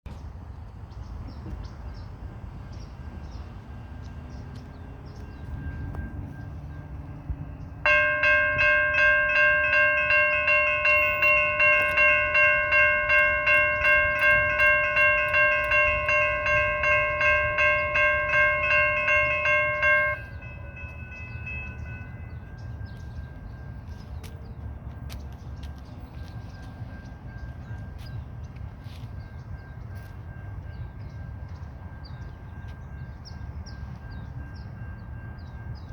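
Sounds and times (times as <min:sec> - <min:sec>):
low rumble of traffic: 0:00.1 - 0:35.9
railroad crossing bell ringing: 0:01.8 - 0:35.9.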